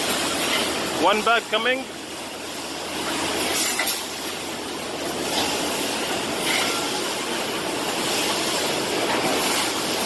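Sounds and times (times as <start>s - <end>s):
bagging machine and conveyors running: 0.0s - 10.0s.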